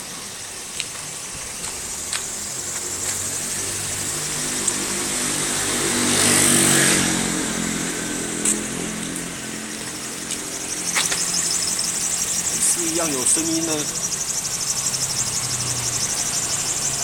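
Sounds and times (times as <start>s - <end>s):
car engine humming: 0.0s - 17.0s
high hissing belt noise: 0.0s - 17.0s.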